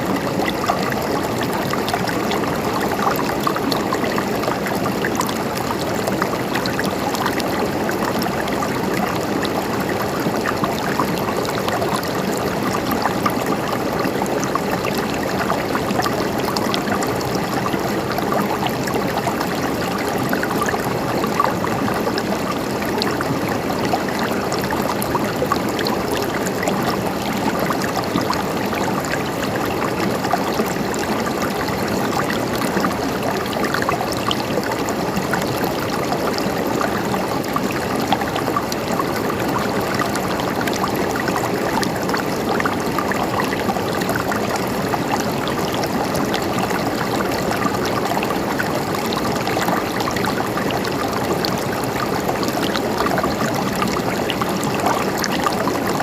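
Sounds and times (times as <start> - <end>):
stream of water gurgling: 0.0 - 56.0.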